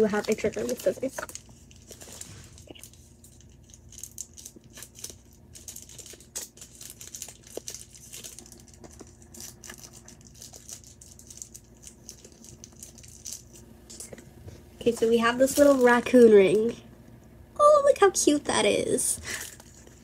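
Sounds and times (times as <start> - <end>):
plastic packaging crinkling: 0.0 - 14.2, 14.9 - 16.4, 19.2 - 20.0.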